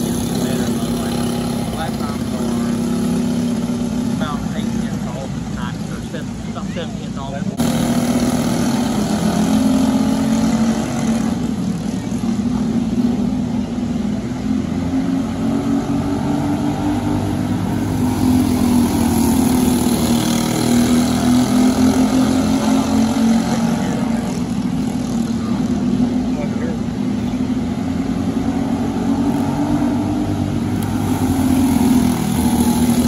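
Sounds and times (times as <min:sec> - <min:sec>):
kart engines running: 0:00.0 - 0:33.0.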